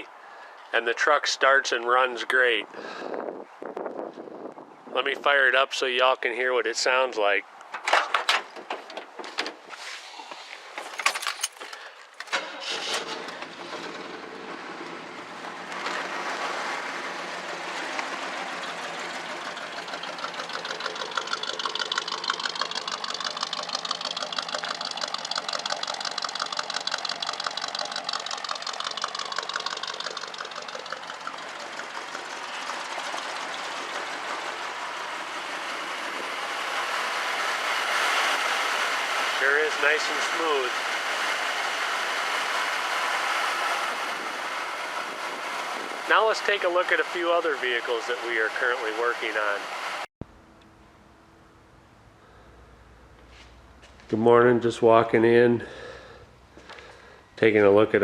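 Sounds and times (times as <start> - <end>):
engine starting and running: 10.6 - 58.0.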